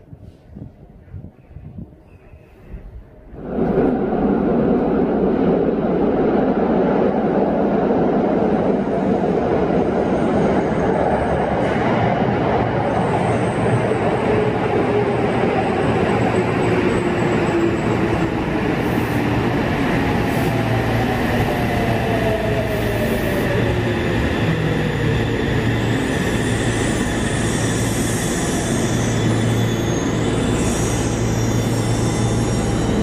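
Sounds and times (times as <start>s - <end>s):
rumble of wheels on rails: 0.0s - 33.0s.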